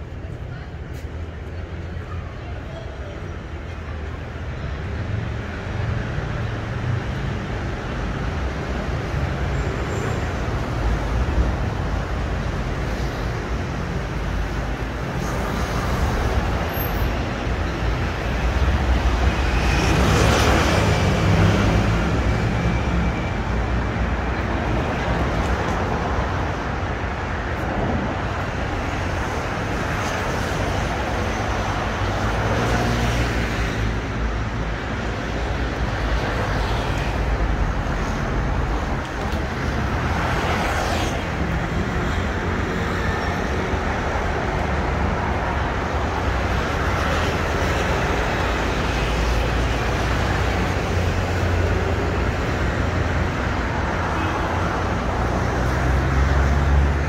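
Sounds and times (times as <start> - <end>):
traffic passing: 0.0 - 57.0.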